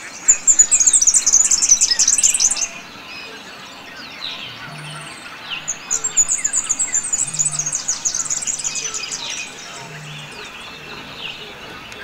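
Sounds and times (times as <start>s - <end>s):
other birds calling: 0.0s - 12.0s.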